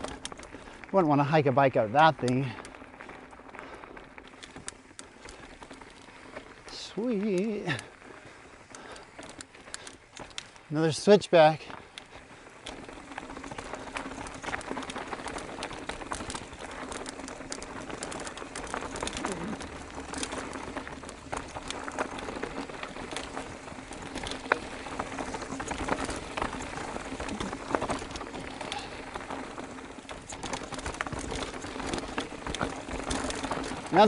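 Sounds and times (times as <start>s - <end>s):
bike clicking and rattling: 0.0s - 34.0s
tyres crunching over loose rock: 0.0s - 34.0s.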